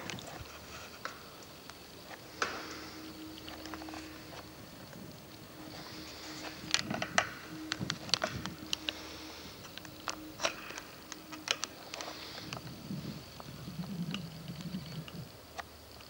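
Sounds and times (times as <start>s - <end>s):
faint steady hum: 0.0s - 16.0s
sharp clicks and crackles: 0.0s - 16.0s.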